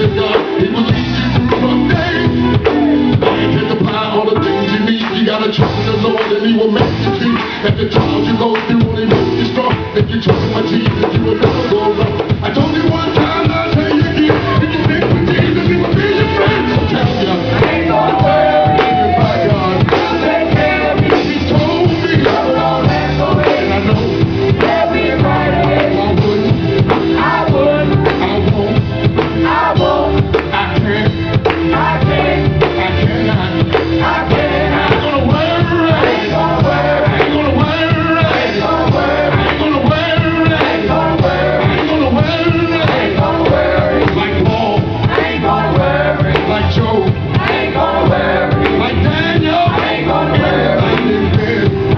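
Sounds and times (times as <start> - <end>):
singing: 0.0 - 26.6, 29.4 - 51.9
drum kit beat: 0.0 - 51.9
gospel band playing: 0.0 - 51.9.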